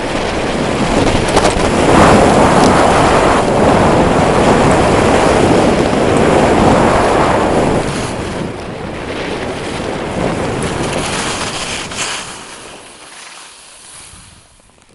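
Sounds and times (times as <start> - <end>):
skis sliding on snow: 0.0 - 14.9
wind on microphone: 0.0 - 14.9.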